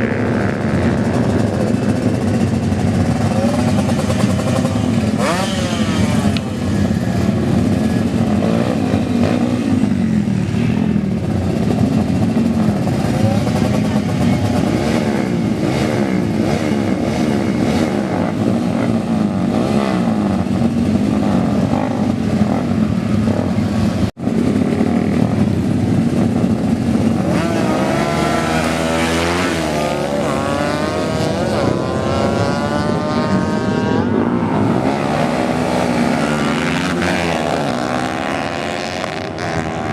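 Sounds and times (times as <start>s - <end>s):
racing motorcycle engines revving: 0.0s - 39.9s.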